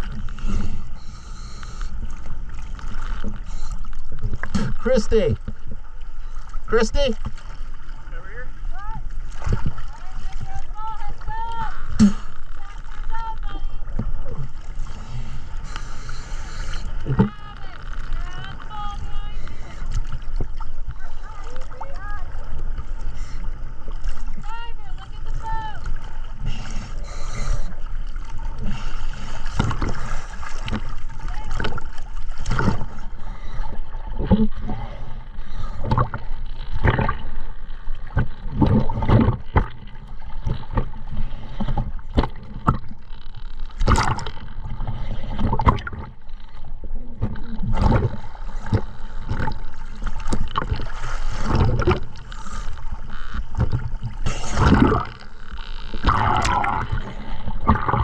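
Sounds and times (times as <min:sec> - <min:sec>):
water gurgling and bubbling: 0:00.0 - 0:58.0
water splashing: 0:00.0 - 0:58.0.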